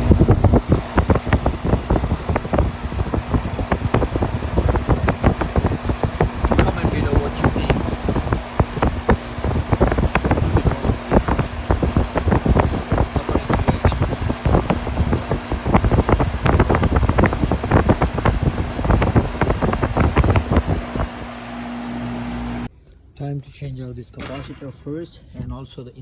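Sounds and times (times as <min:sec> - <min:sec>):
air conditioner humming: 0:00.0 - 0:22.7.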